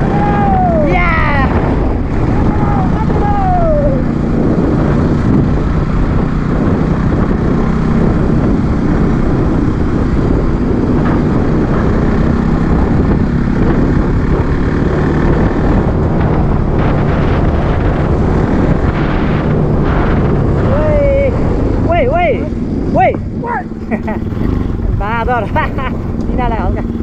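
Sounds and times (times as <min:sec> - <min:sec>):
motorcycle engine cruising: 0:00.0 - 0:27.0
wind rush on microphone: 0:00.0 - 0:27.0.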